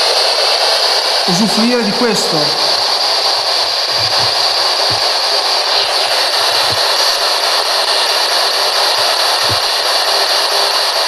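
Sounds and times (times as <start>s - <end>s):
white noise and radio static: 0.0s - 11.0s.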